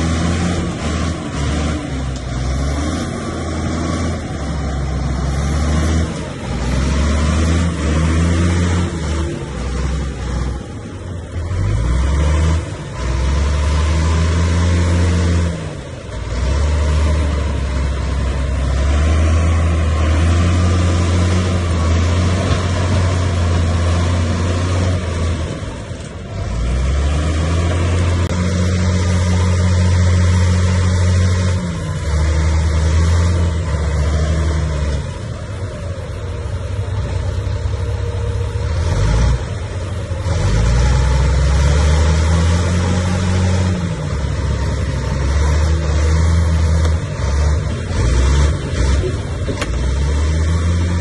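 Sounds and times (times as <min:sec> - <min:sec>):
bulldozer diesel engine: 0:00.0 - 0:51.0.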